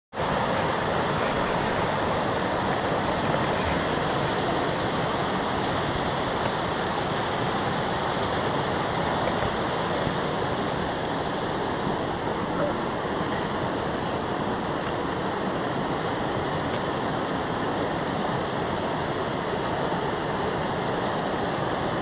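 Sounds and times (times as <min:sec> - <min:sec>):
creek rushing over rocks: 0:00.1 - 0:22.0.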